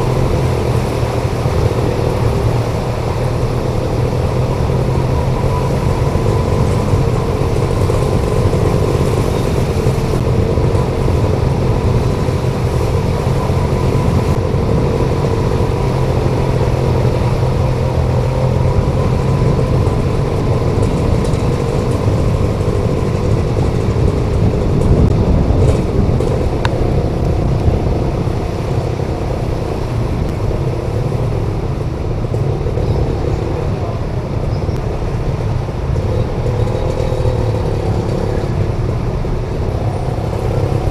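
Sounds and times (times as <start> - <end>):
road traffic: 0.0 - 40.9
vehicle engine humming: 0.0 - 40.9.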